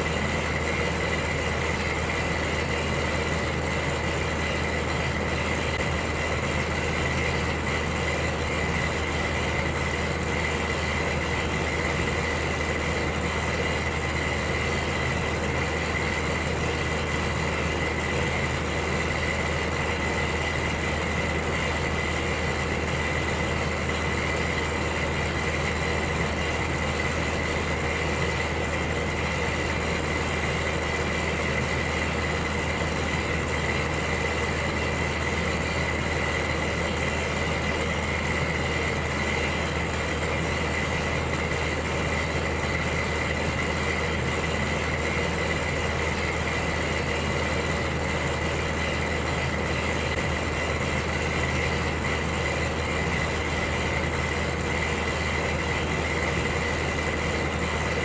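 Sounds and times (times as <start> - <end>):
electric heater humming and rushing: 0.0 - 58.0.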